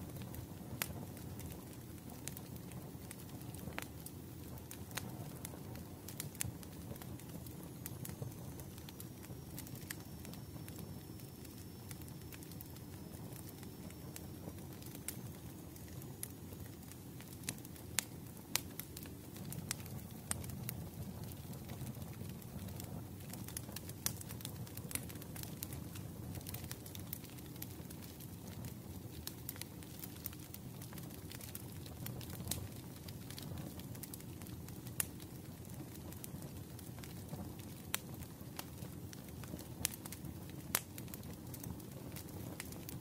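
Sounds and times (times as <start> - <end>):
low rumble of burning logs: 0.0 - 43.0
wood fire crackling: 0.0 - 43.0.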